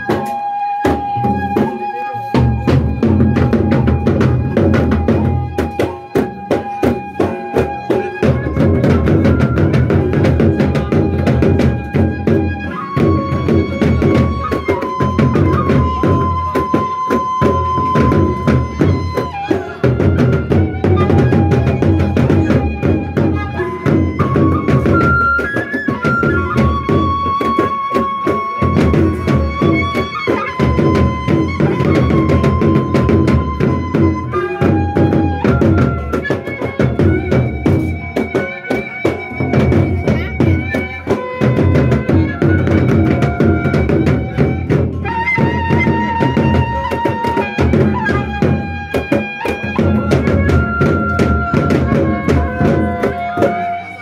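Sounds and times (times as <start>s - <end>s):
large drums beaten rapidly: 0.0s - 53.7s
cymbals and gongs: 0.0s - 54.0s.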